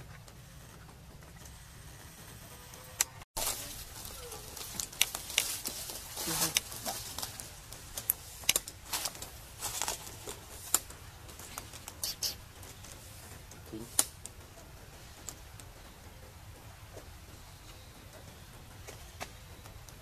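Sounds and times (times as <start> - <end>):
sharp clicks and crackles: 0.0 - 20.0.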